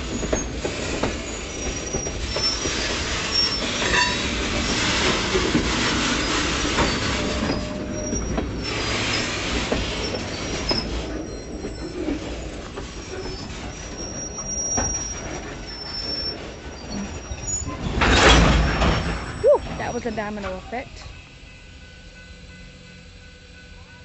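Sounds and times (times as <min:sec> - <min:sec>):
high wheel squeal: 0:00.0 - 0:05.1, 0:05.9 - 0:20.3
freight cars rolling on track: 0:00.0 - 0:21.1.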